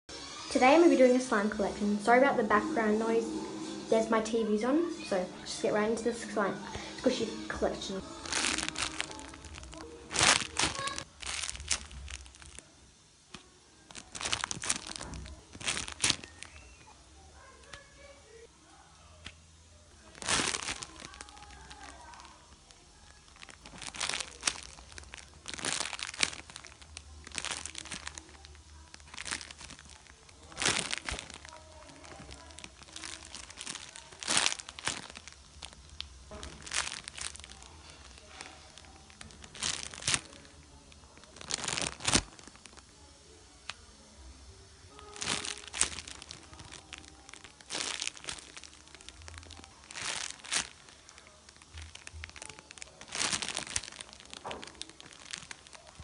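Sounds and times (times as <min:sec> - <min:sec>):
plastic bags crinkling: 0:06.7 - 0:12.7, 0:13.3 - 0:17.9, 0:19.9 - 0:43.1, 0:44.9 - 0:56.0.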